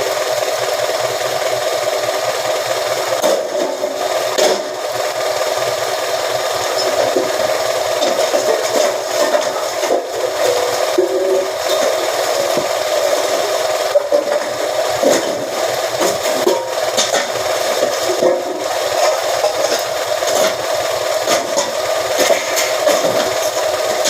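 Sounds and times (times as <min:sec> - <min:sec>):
press machine running: 0:00.0 - 0:24.0.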